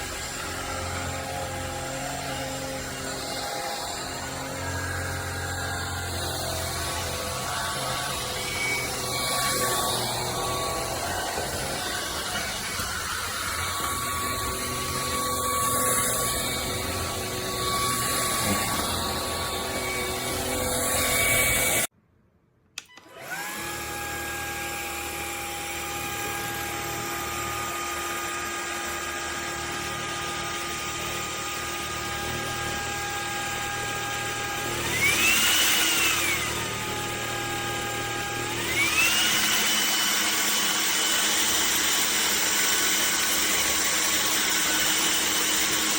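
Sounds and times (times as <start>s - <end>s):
vacuum motor whining: 0.0s - 21.9s, 22.8s - 45.9s.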